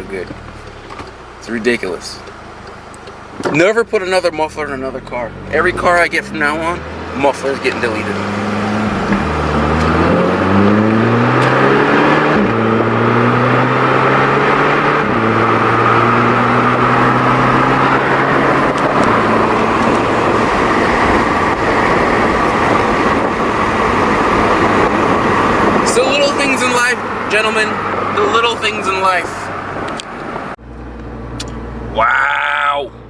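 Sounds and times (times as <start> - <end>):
car engine accelerating: 0.0 - 32.0
road noise: 0.0 - 33.0.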